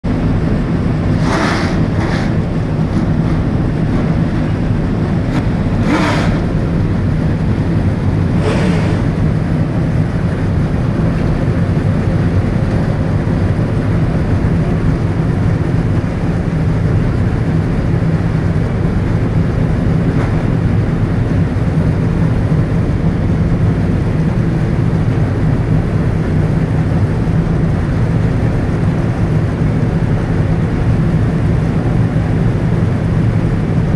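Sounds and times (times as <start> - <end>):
race car engines idling: 0.0 - 33.9.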